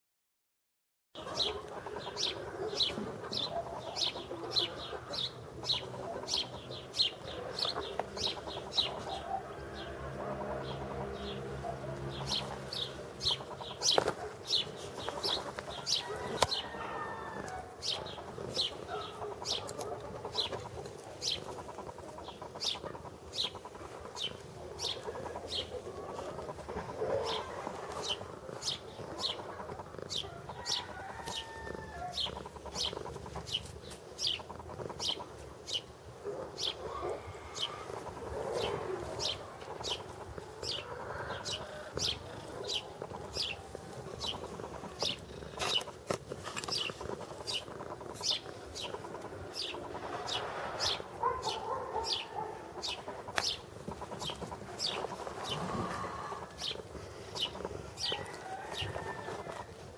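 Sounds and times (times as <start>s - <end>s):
other bird calls: 1.2s - 59.9s.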